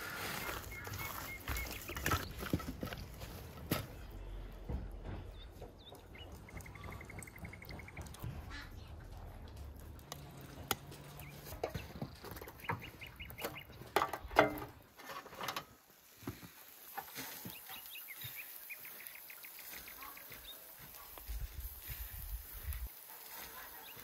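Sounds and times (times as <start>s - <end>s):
birds calling with rattling notes: 0.0s - 3.0s, 3.9s - 9.2s, 10.2s - 15.0s, 16.8s - 24.0s.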